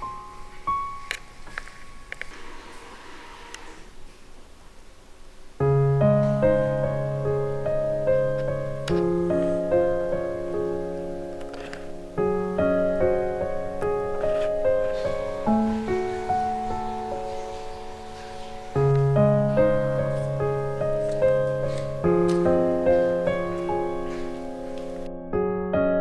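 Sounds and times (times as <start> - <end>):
piano music: 0.0 - 3.7, 5.5 - 26.0.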